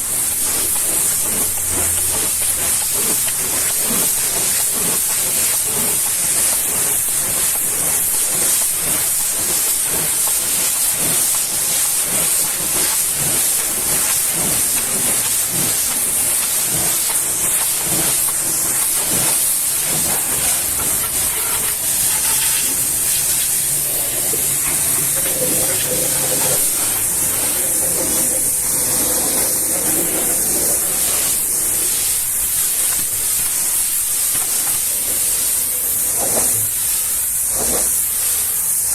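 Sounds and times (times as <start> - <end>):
pressure washer jet hissing: 0.0 - 38.9.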